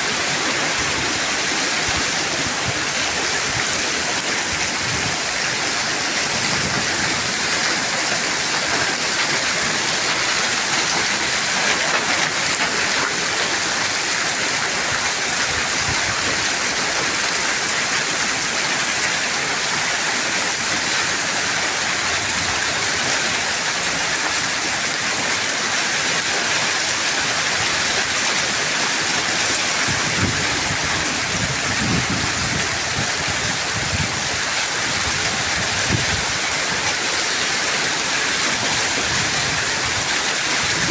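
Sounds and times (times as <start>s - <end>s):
hail and heavy rain: 0.0s - 40.9s.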